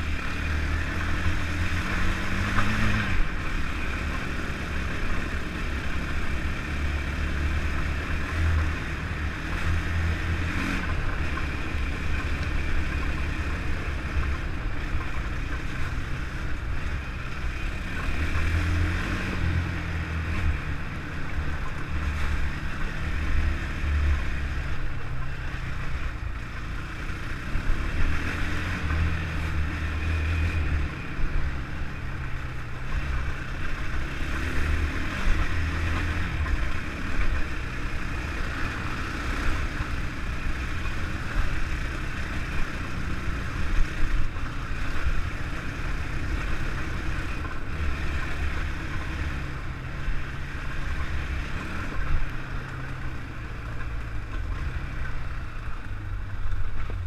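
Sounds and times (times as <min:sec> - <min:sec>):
quad engine running: 0:00.0 - 0:57.0.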